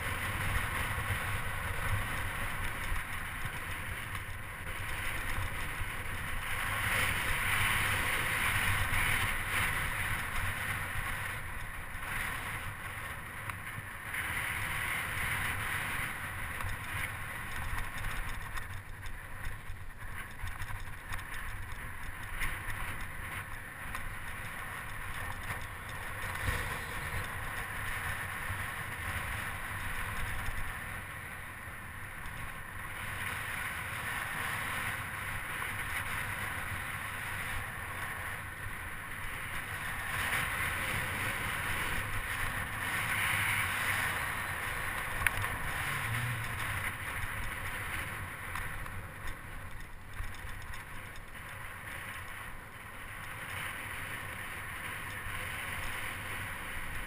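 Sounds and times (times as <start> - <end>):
wind rushing over microphone: 0.0 - 57.0
tyres rolling over asphalt: 0.1 - 57.0.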